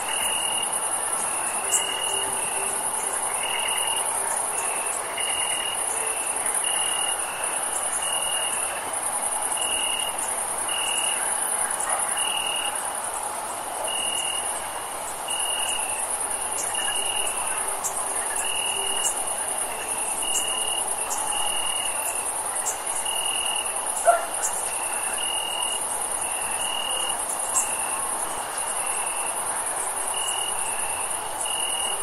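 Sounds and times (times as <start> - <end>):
high-pitched cricket trill: 0.0 - 12.8, 13.8 - 32.0.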